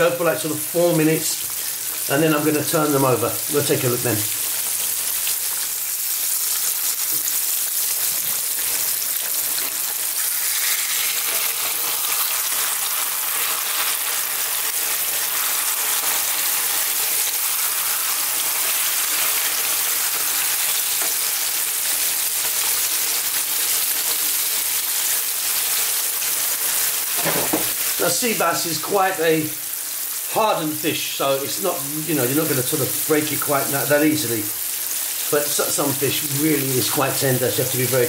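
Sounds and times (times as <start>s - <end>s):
fish sizzling in hot oil: 0.0s - 38.0s.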